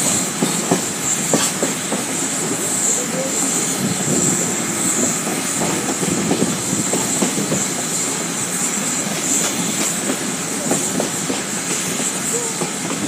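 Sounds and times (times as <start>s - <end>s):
high steam hiss: 0.0s - 13.0s
train wheels rumbling on rail: 0.0s - 13.0s.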